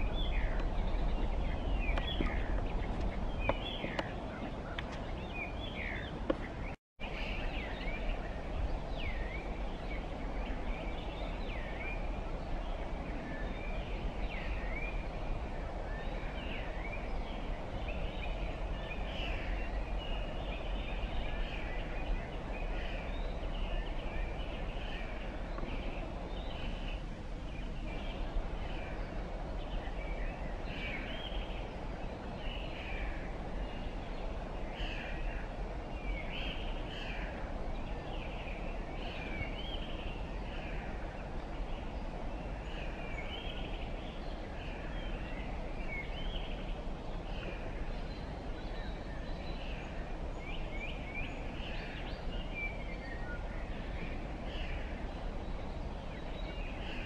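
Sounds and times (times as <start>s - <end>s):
birds chirping: 0.0s - 57.0s
low background rumble and hiss: 0.0s - 57.0s.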